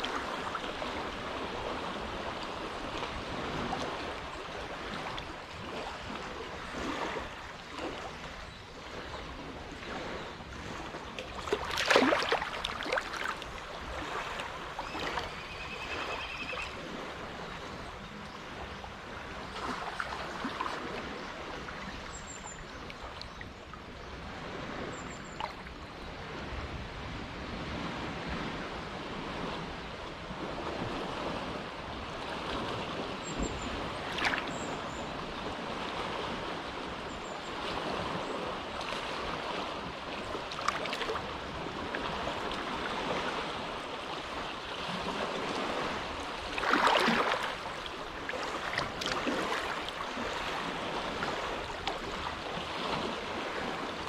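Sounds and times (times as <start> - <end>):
small waves lapping at shore: 0.0 - 54.0.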